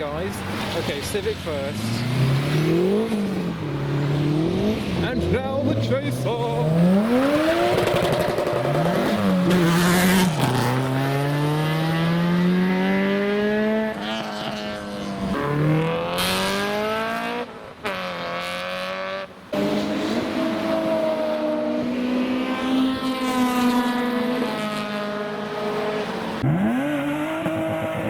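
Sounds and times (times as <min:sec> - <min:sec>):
car engine revving through gears: 0:00.4 - 0:28.0.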